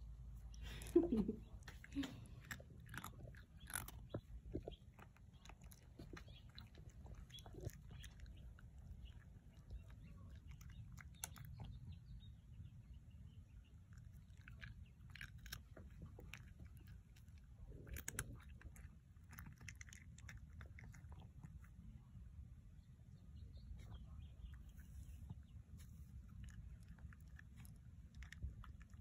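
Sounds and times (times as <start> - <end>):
low steady hum: 0.0 - 29.0
cat crunching treats: 0.6 - 12.4, 13.7 - 22.0, 25.7 - 29.0.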